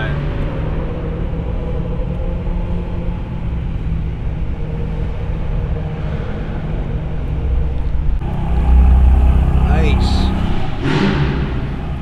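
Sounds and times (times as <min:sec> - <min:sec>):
car engine and loud exhaust: 0:00.0 - 0:12.0.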